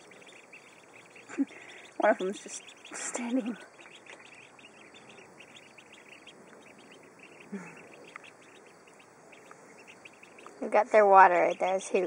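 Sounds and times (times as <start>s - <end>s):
ducklings peeping softly: 0.0s - 12.0s.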